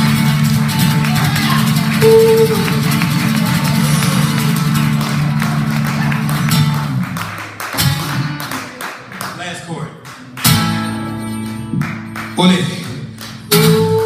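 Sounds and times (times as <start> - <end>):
acoustic guitar strumming: 0.0 - 8.8, 10.4 - 14.0.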